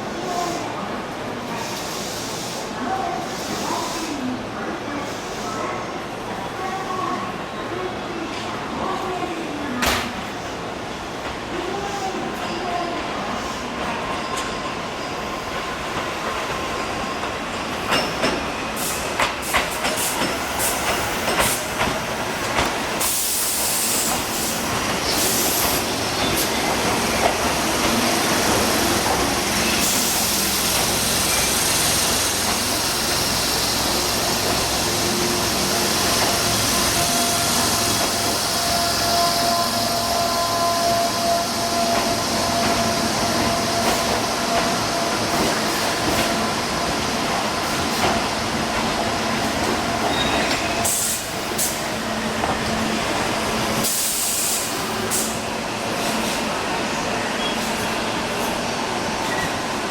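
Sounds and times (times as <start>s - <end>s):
train rolling noise with hiss: 0.0s - 59.9s.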